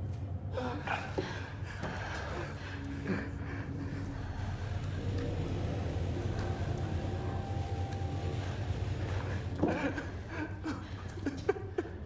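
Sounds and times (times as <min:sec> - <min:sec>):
low rumbling drone: 0:00.0 - 0:11.3.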